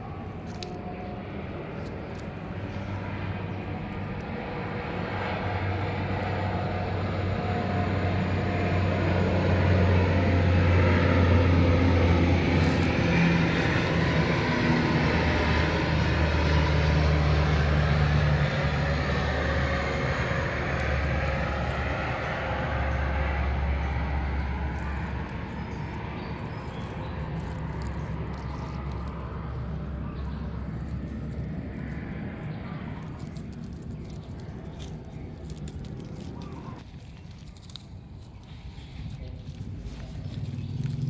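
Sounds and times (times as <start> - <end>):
engine-like drone with low hum: 0.0 - 41.0.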